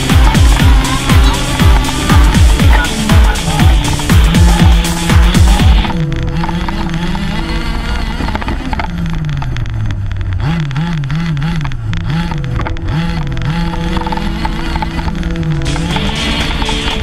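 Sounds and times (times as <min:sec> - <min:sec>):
rc truck engine revving: 0:00.0 - 0:17.0.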